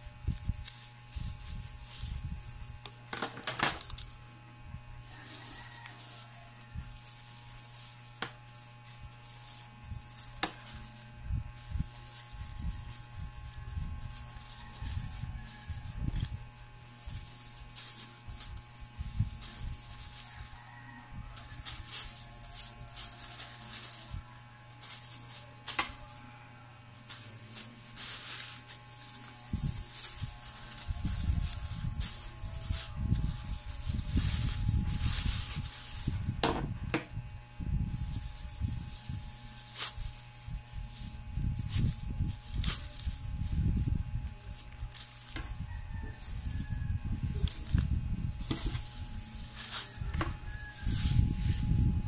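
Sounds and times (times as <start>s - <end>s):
plastic bag crinkling: 0.0s - 52.0s
steady low hum: 0.0s - 52.0s.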